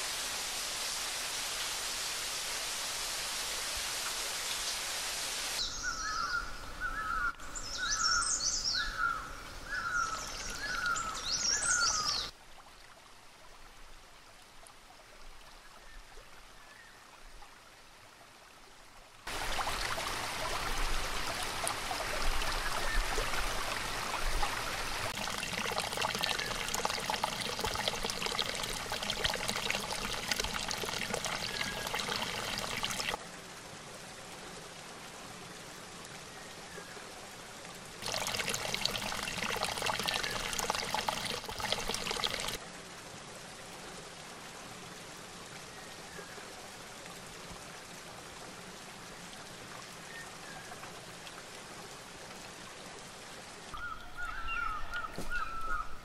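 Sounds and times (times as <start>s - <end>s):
stream splashing over rocks: 0.0s - 6.3s, 9.7s - 56.0s.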